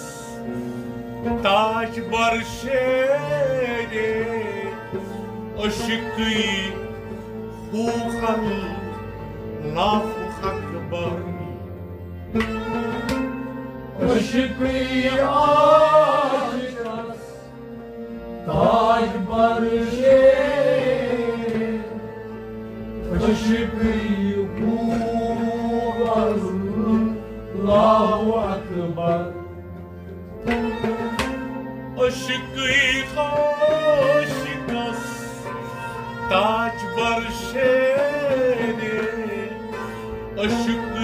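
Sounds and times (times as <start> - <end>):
bowed string melody: 0.0 - 41.0
harmonium tones: 0.0 - 41.0.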